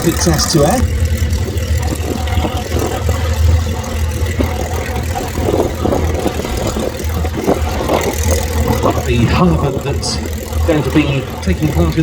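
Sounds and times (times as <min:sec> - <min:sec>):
propeller aircraft engine rumbling: 0:00.0 - 0:12.0.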